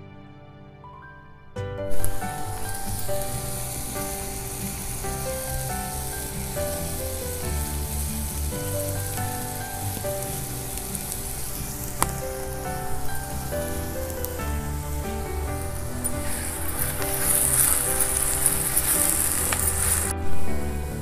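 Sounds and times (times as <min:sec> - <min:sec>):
melodic background music: 0:00.0 - 0:21.0
oil sizzling in a pan: 0:02.0 - 0:20.2.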